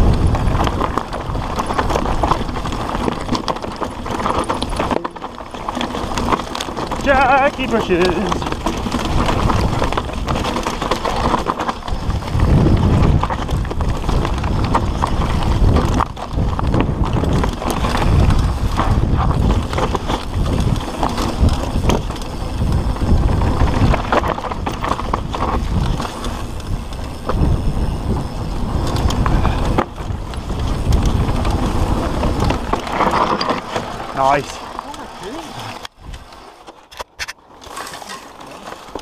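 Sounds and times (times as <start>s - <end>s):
bike chain and frame rattling: 0.0s - 39.0s
tyres crunching over stones: 0.0s - 39.0s.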